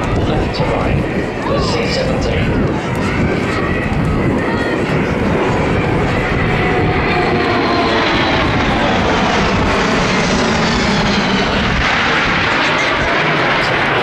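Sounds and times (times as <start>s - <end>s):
jet aircraft flying past: 0.0s - 14.0s.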